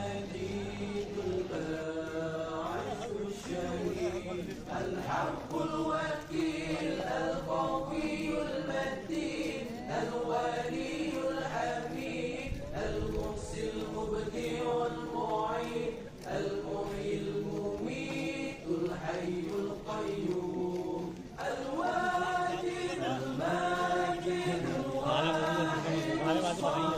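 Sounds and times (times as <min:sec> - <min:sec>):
men chanting melodic recitation: 0:00.0 - 0:26.9.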